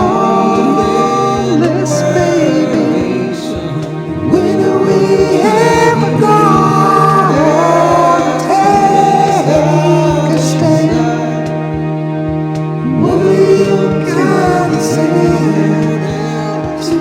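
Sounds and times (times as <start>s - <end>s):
person singing: 0.0s - 12.2s, 12.8s - 17.0s.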